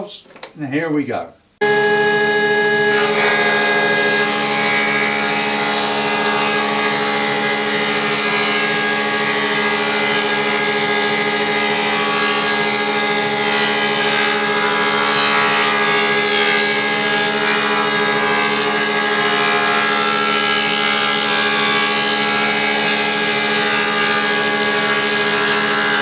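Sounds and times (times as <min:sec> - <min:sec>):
planer machine hum: 0:01.6 - 0:26.0.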